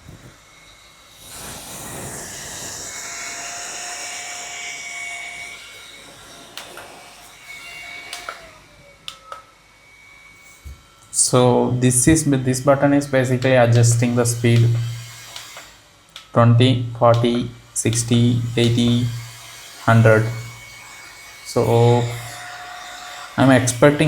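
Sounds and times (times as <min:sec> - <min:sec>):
handheld fan whirring: 0:00.0 - 0:24.0.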